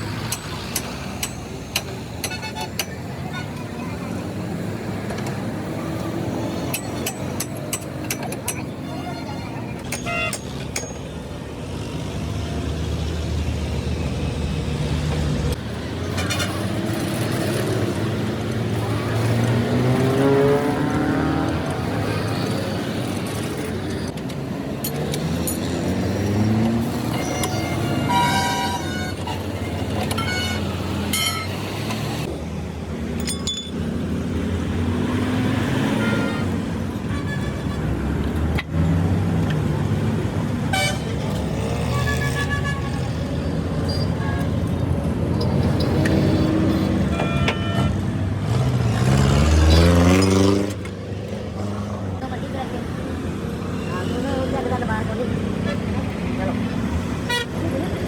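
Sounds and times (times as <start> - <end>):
vehicle engines passing: 0.0 - 58.0.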